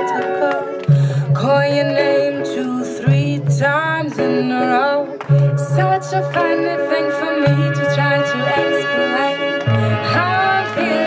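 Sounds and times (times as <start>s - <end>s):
pop song over loudspeakers: 0.0s - 11.0s.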